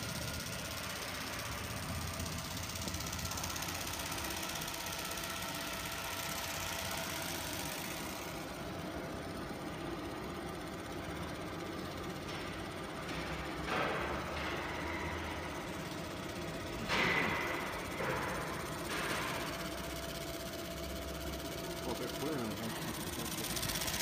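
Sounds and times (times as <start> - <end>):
workshop machinery hum and hiss: 0.0 - 24.0.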